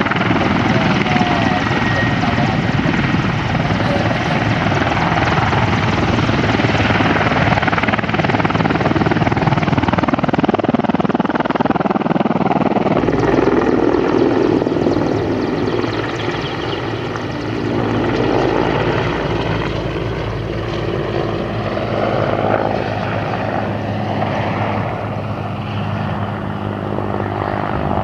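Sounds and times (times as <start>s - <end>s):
helicopter flying past: 0.0s - 28.0s.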